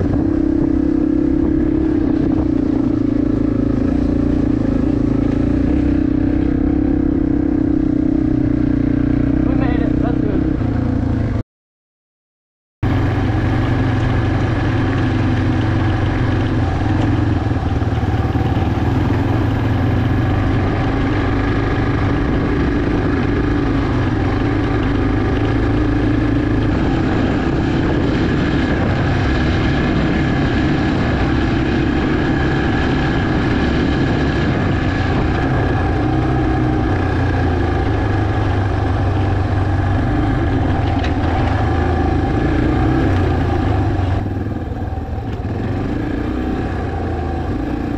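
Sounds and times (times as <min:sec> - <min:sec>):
dirt bike engine running: 0:00.0 - 0:11.4, 0:12.8 - 0:47.9.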